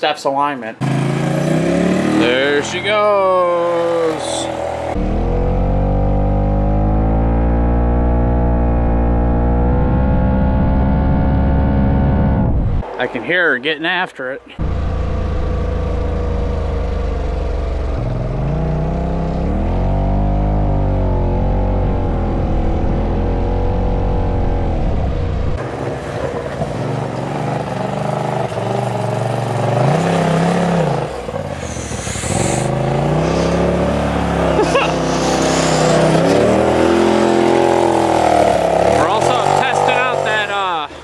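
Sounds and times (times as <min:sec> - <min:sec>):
utility vehicle engine revving: 0:00.8 - 0:13.3, 0:14.6 - 0:41.0.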